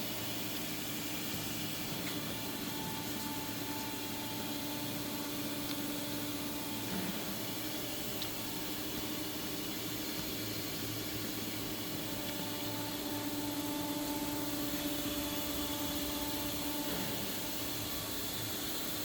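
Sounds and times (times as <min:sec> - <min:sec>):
constant hiss: 0:00.0 - 0:19.0
machinery hum: 0:00.0 - 0:19.0.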